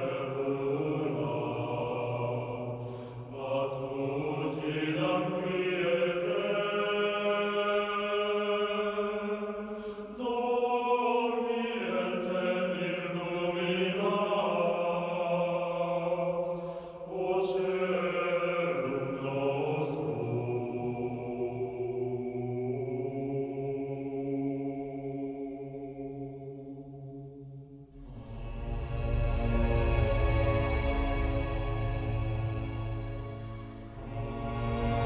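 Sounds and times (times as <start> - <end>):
slow chant-like music: 0.0 - 35.0.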